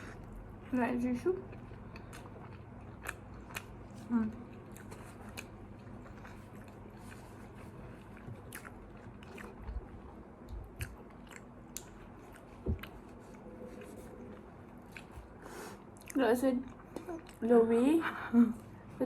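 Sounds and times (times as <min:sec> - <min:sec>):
steady low hum: 0:00.0 - 0:19.0
person chewing food: 0:01.5 - 0:17.5.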